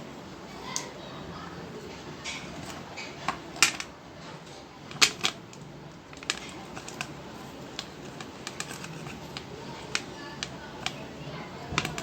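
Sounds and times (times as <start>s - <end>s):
hard objects clicking and knocking: 2.2s - 12.0s.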